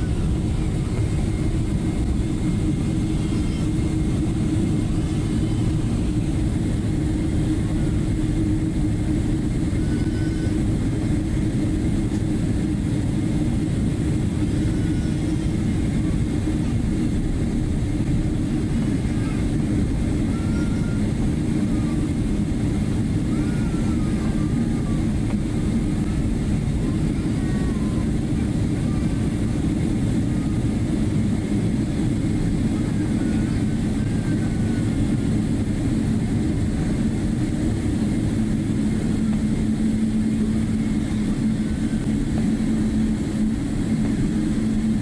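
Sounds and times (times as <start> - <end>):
aircraft cabin engine rumble: 0.0 - 45.0.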